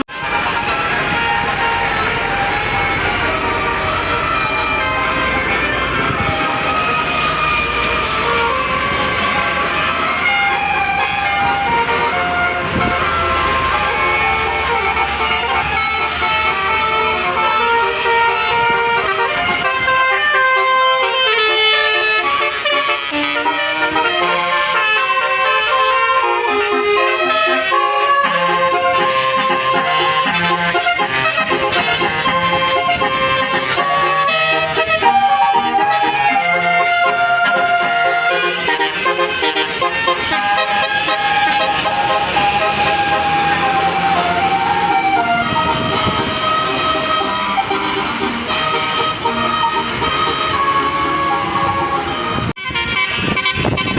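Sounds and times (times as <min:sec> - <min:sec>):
multi-tone musical air horn: 0:00.0 - 0:53.9.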